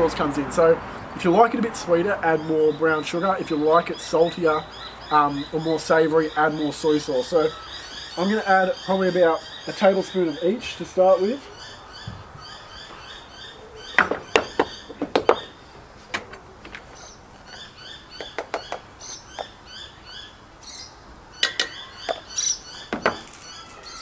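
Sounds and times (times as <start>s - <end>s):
small birds chirping: 1.0s - 24.0s.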